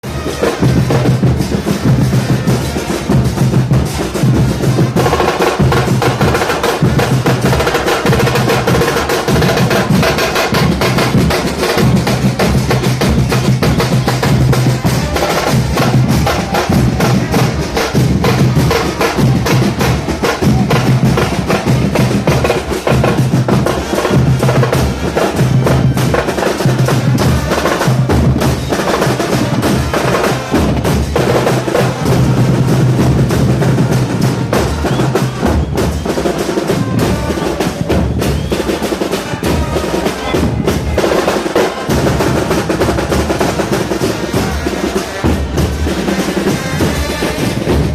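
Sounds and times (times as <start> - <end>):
bass drums beating: 0.0 - 38.7, 41.8 - 47.9
snare drum rolls: 0.0 - 47.9.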